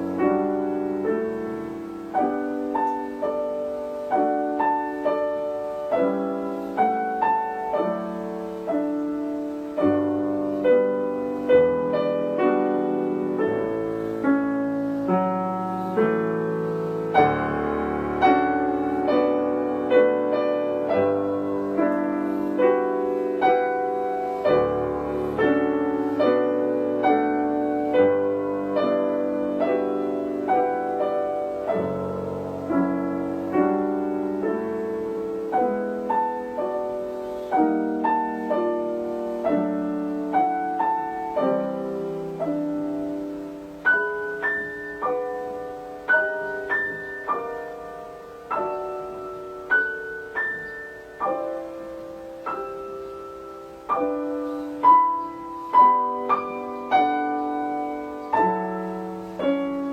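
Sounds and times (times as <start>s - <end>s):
slow solo piano piece: 0.0s - 59.9s.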